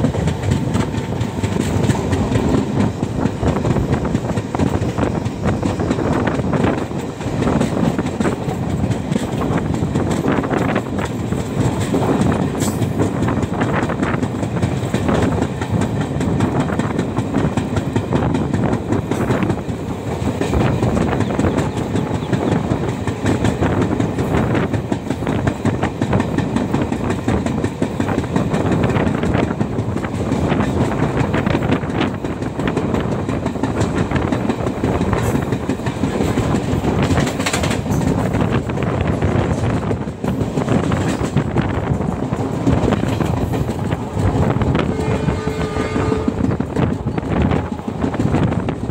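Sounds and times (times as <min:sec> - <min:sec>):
train coaches rumbling: 0:00.0 - 0:48.9.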